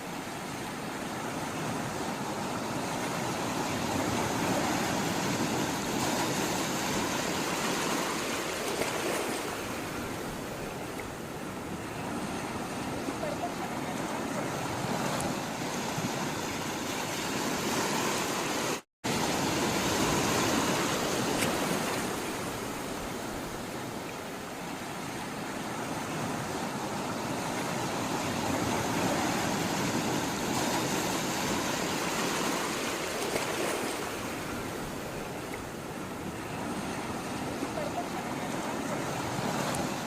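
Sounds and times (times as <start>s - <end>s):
sea water rushing: 0.0s - 40.0s.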